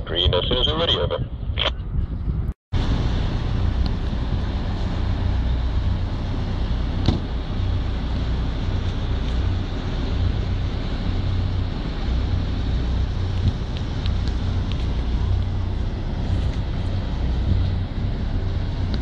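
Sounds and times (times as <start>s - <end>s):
wind buffeting microphone: 0.0s - 19.0s
boat engine running: 2.8s - 19.0s.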